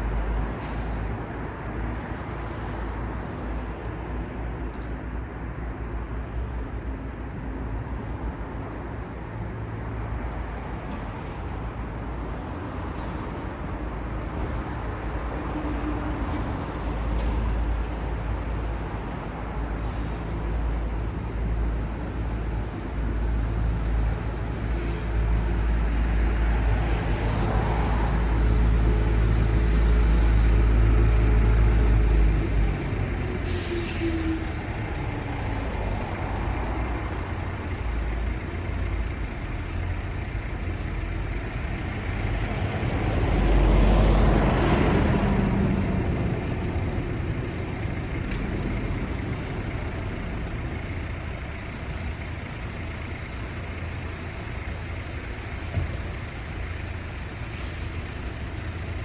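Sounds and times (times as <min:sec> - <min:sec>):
heavy vehicle rumbling: 0:00.0 - 0:05.2, 0:05.9 - 0:59.0
traffic hum: 0:00.0 - 0:59.0.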